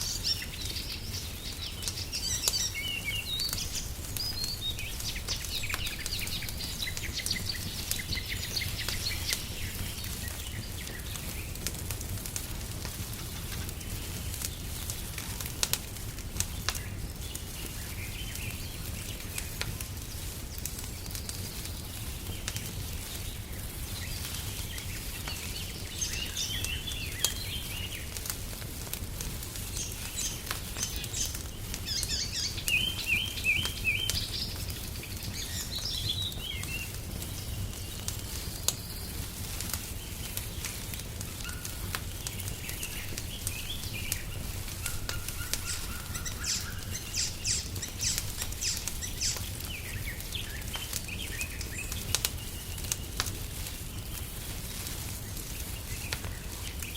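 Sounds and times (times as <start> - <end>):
songbirds chirping: 0.0 - 56.9
wood fire crackling: 0.0 - 56.9.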